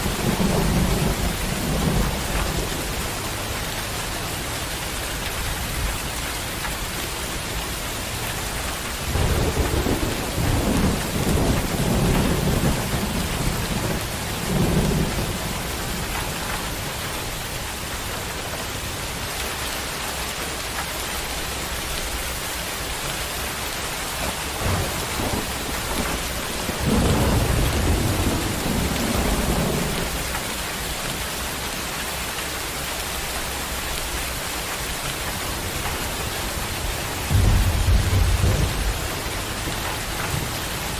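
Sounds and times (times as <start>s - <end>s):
thunder rumbling: 0.0s - 7.4s, 8.2s - 18.8s, 22.2s - 31.2s, 33.8s - 40.9s
heavy rain falling: 0.0s - 40.9s.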